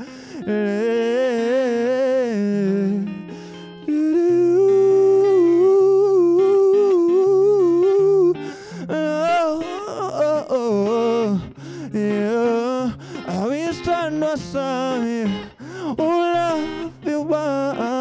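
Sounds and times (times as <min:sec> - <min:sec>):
acoustic guitar: 0:00.0 - 0:18.0
man singing with vibrato: 0:00.0 - 0:18.0.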